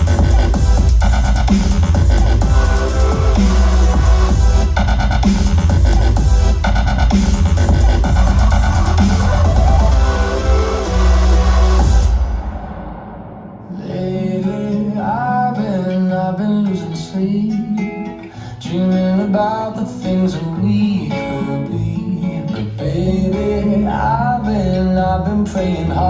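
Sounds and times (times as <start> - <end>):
pop music with strummed guitar: 0.0 - 12.4, 13.6 - 26.0
electronic music track: 0.0 - 26.0.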